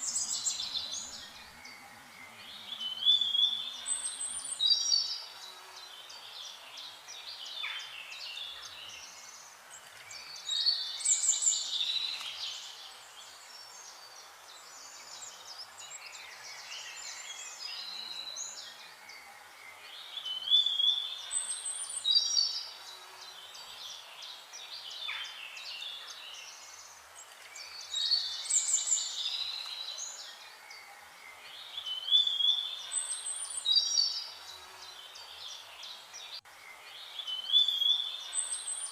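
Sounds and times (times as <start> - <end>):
songbirds singing and chirping: 0.0 - 38.9.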